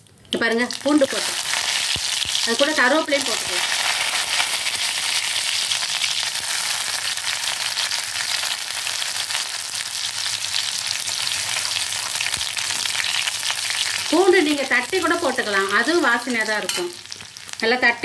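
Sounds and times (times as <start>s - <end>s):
garlic sizzling in hot oil: 0.3s - 18.0s.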